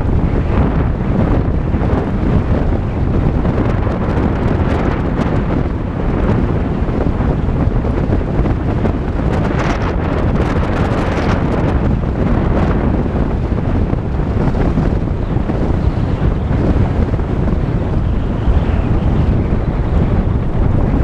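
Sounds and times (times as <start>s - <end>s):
car tyres rumbling on dirt road: 0.0s - 21.0s
wind buffeting microphone: 0.0s - 21.0s.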